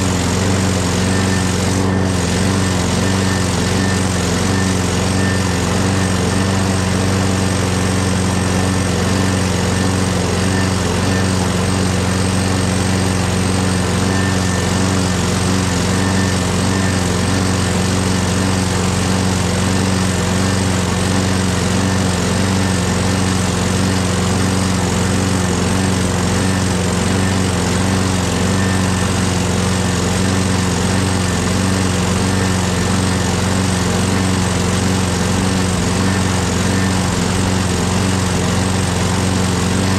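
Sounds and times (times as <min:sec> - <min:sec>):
mower engine running steadily: 0:00.0 - 0:39.9.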